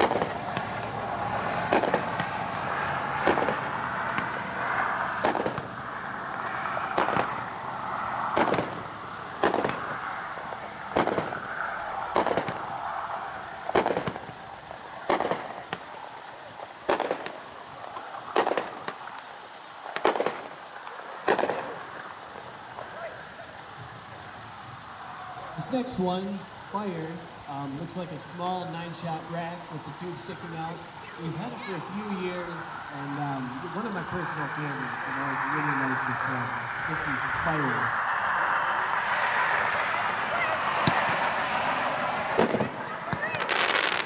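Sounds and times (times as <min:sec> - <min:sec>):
distant firework reports: 0:00.0 - 0:44.0
firework crackling hiss: 0:00.0 - 0:44.0.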